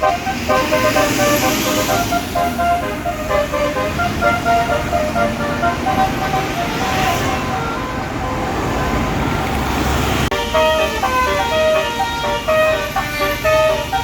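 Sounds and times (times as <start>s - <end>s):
bus air horn melody: 0.0s - 9.0s, 10.3s - 14.0s
bus engine: 0.0s - 14.0s
traffic: 0.0s - 14.0s.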